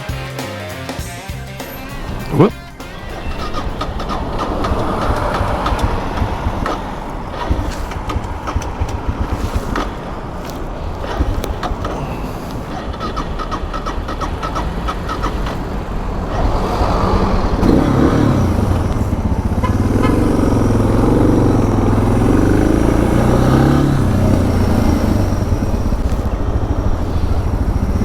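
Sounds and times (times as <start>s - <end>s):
motorcycle engine running: 1.3s - 28.0s
road and wind noise: 1.6s - 28.0s.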